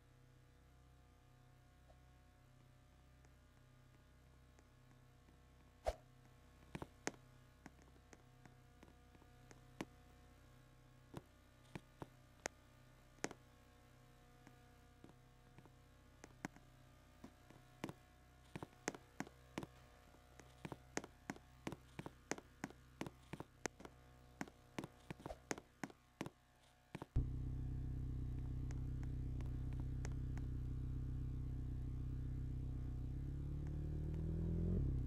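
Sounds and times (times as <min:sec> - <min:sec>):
motor running steadily: 0:06.3 - 0:35.0.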